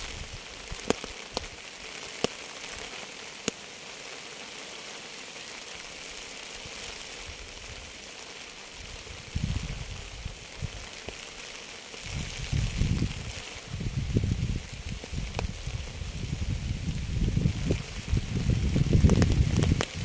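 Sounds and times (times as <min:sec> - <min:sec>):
close raindrops striking: 0:00.0 - 0:20.0
steady rain patter: 0:00.0 - 0:20.0.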